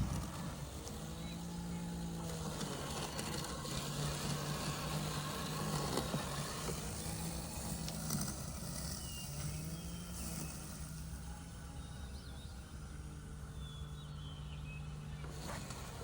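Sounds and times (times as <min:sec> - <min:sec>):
robotic lawn mower motor hum: 0:00.0 - 0:16.0.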